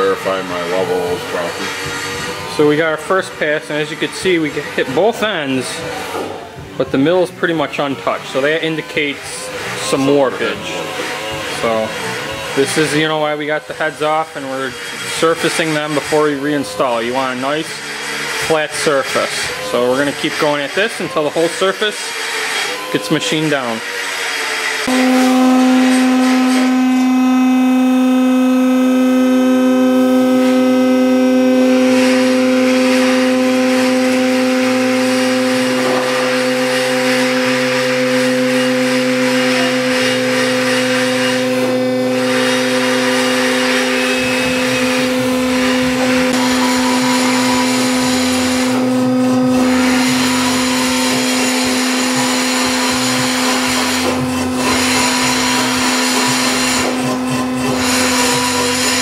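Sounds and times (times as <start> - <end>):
resurfacing machine humming: 0.0 - 59.0.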